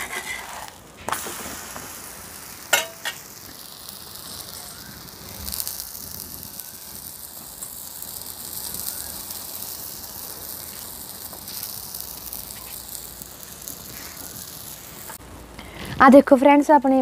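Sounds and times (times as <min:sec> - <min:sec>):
bread sizzling on a griddle: 0:00.0 - 0:15.9.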